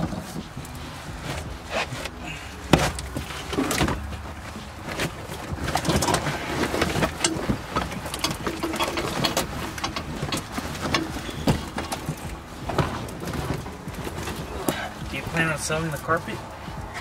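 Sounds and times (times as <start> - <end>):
carpet rustling and scraping: 0.0 - 17.0.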